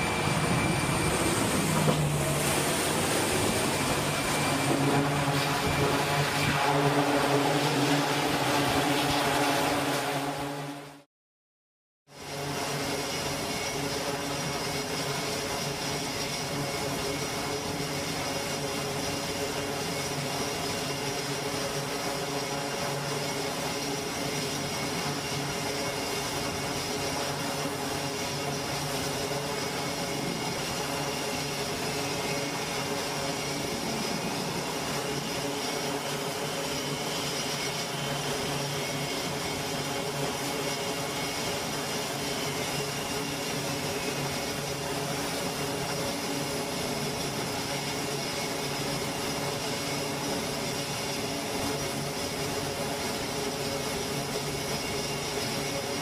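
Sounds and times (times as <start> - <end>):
turboprop engines droning: 0.0 - 11.1, 12.1 - 56.0.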